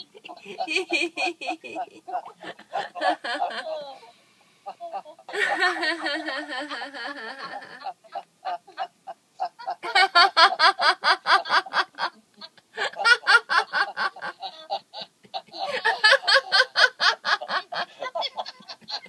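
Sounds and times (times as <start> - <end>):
people laughing: 0.0 - 4.0, 4.9 - 12.2, 12.8 - 14.7, 15.4 - 19.0.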